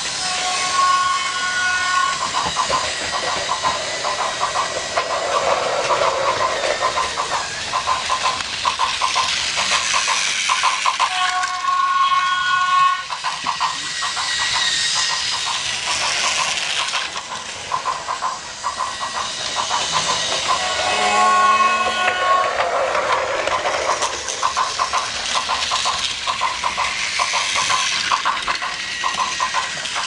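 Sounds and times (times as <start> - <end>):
toy trains clicking on track: 0.0 - 30.0
hissing noise: 2.1 - 11.0, 13.0 - 30.0.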